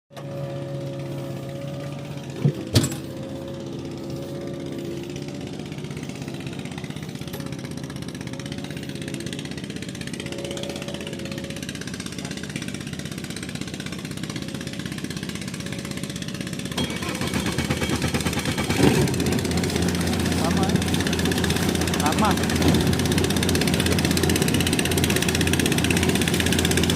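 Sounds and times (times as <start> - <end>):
outboard engine running: 0.1 - 26.9.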